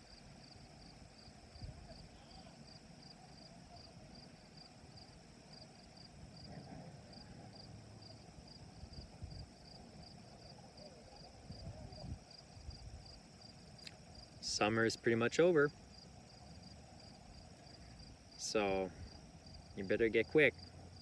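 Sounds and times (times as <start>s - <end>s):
steady high insect trill: 0.0s - 21.0s.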